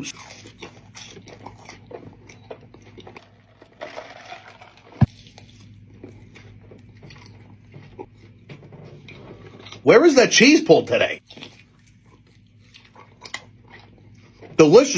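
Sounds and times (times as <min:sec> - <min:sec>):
person chewing crunchy food: 0:00.1 - 0:09.8, 0:11.2 - 0:14.6.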